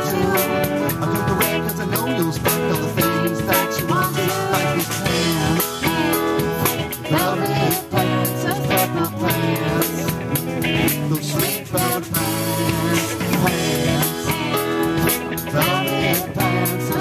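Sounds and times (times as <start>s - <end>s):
woman singing: 0.0s - 2.3s, 3.0s - 17.0s
bass: 0.0s - 17.0s
drum kit beat: 0.0s - 17.0s
electric and acoustic guitars: 0.0s - 17.0s
keyboard: 0.0s - 17.0s.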